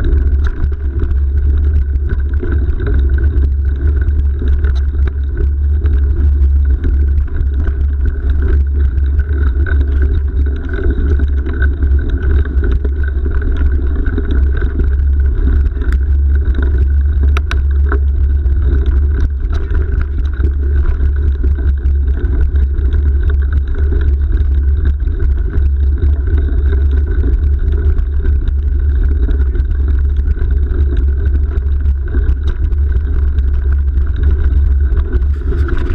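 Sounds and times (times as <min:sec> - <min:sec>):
bike tyres rumbling on dirt: 0:00.0 - 0:35.9
wind buffeting microphone: 0:00.0 - 0:35.9.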